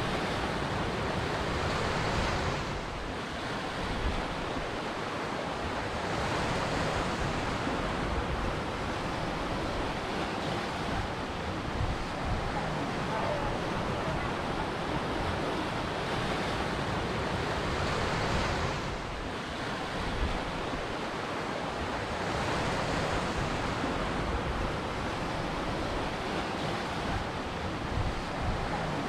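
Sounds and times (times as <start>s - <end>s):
ocean waves washing in: 0.0s - 29.0s.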